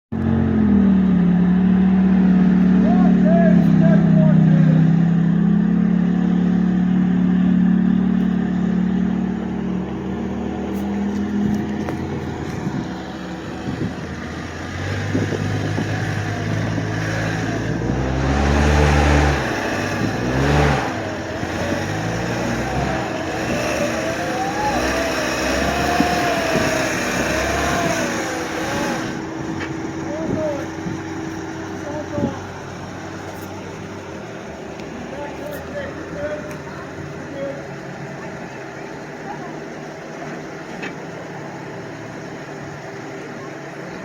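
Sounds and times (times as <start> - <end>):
vehicle engine revving: 0.1 - 44.0.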